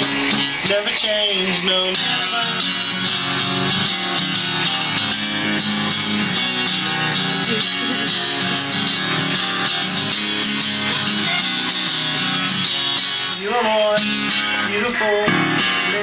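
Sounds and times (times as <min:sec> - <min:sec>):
song with strummed guitar: 0:00.0 - 0:16.0.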